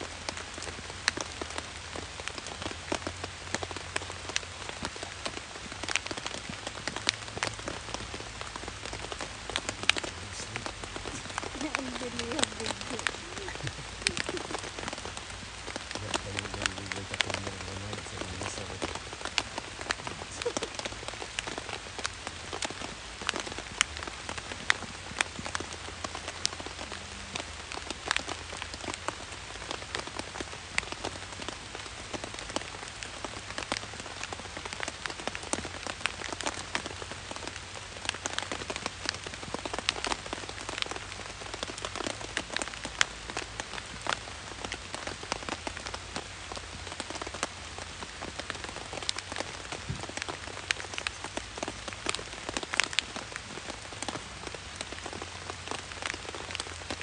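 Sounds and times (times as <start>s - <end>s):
rain pattering on tent fabric: 0.0s - 57.0s.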